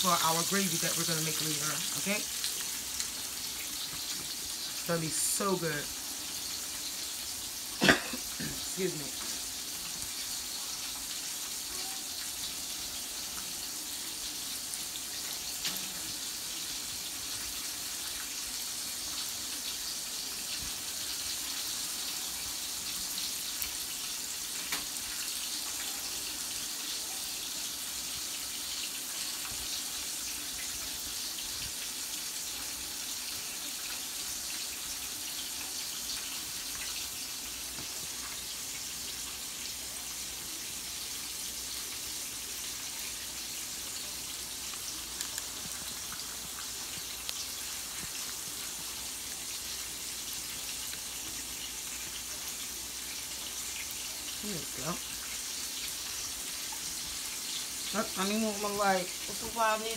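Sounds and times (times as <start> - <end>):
meat sizzling in a skillet: 0.0 - 59.9.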